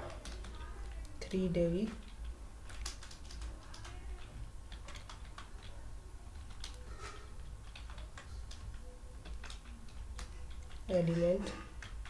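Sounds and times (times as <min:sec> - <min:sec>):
keyboard typing clicks: 0:00.0 - 0:06.9, 0:07.6 - 0:11.0
low steady hum: 0:00.0 - 0:12.0.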